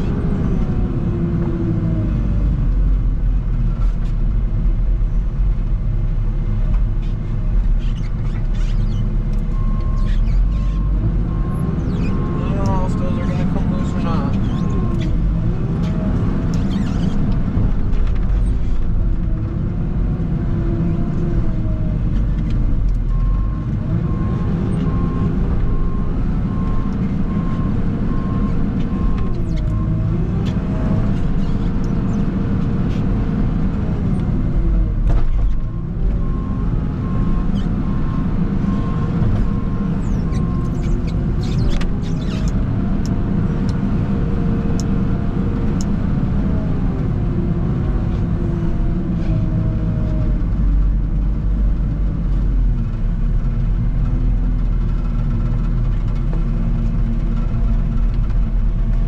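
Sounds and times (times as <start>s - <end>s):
heavy machinery engine: 0.0s - 59.0s.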